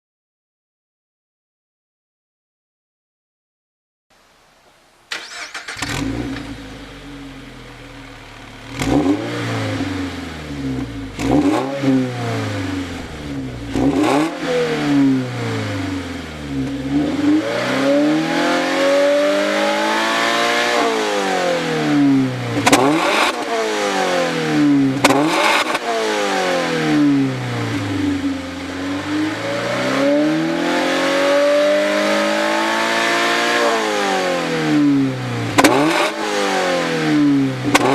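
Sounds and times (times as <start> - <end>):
car engine idling and revving: 5.1 - 37.9.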